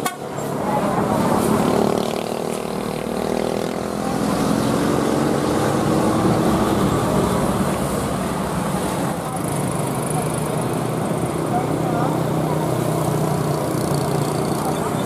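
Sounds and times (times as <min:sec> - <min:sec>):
diesel engines passing: 0:00.0 - 0:15.0.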